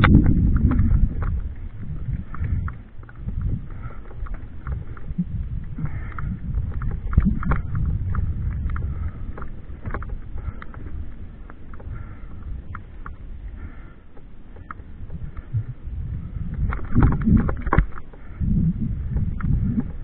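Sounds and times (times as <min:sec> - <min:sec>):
irregular clicks and rattles: 0:00.0 - 0:20.0
wind rumbling on microphone: 0:00.0 - 0:20.0.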